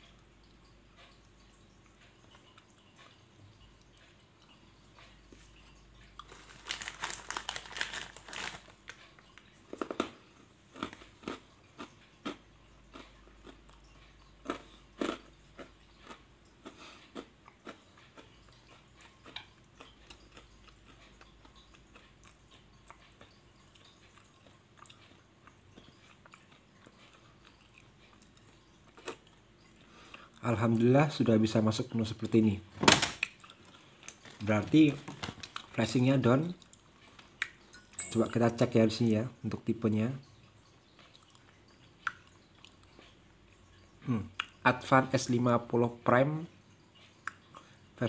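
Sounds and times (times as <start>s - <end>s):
faint clicks and crunching: 0.0s - 38.7s, 40.1s - 45.5s.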